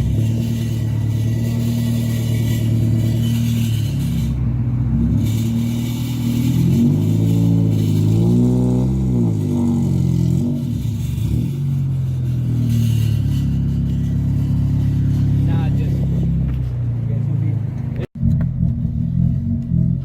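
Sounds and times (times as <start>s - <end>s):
loud car exhaust drone: 0.0s - 20.0s.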